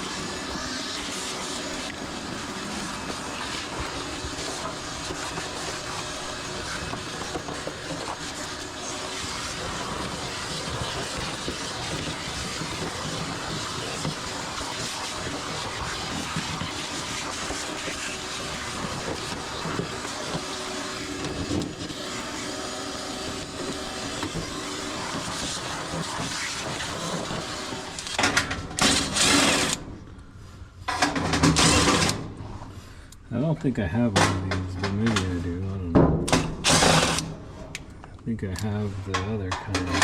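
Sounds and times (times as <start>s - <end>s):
irregular noise bursts: 0.0s - 40.0s
machine noise with hiss: 0.0s - 40.0s.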